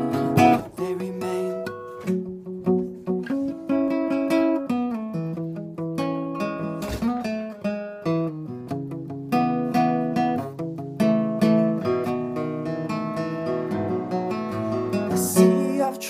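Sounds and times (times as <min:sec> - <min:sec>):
acoustic guitar picked chords: 0:00.0 - 0:16.0.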